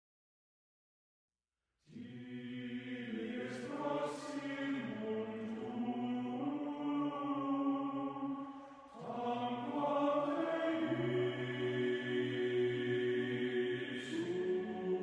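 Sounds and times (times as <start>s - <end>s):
wordless choral chanting: 1.9s - 15.0s.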